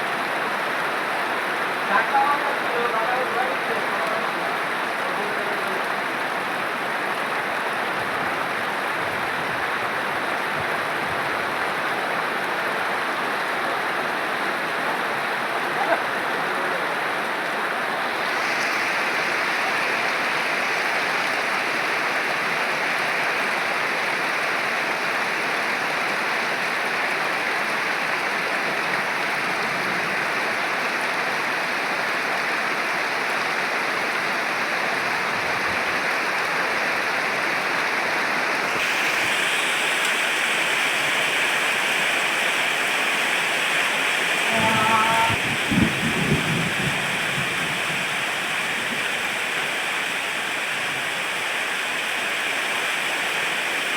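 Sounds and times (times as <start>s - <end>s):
heavy rain: 0.0s - 53.9s.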